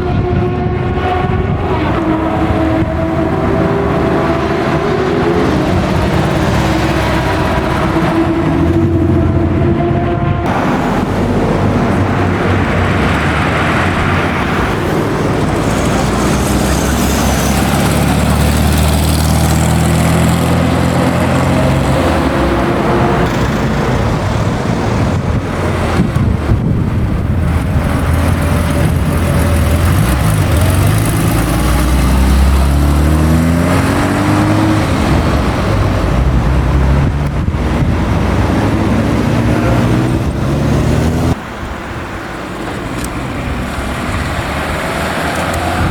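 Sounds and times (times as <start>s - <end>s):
racing car engines accelerating past: 0.0s - 41.4s.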